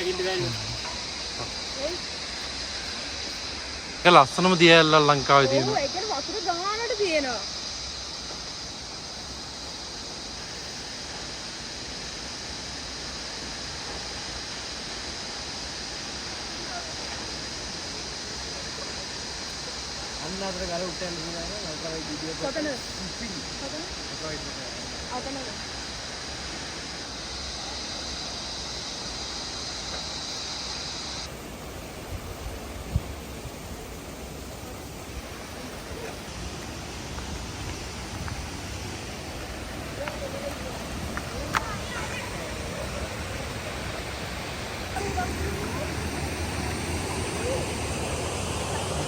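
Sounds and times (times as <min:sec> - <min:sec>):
high-pitched hiss: 0:00.0 - 0:49.0
waterfall rushing: 0:00.0 - 0:49.0.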